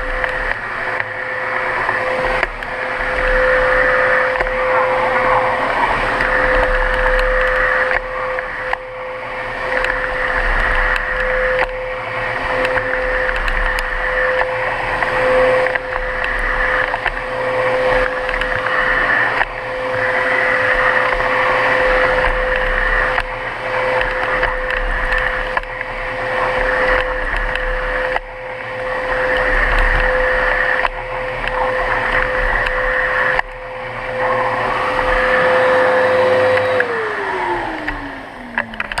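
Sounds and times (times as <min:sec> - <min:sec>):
vacuum cleaner running: 0:00.0 - 0:39.0
vacuum motor winding down: 0:00.0 - 0:39.0.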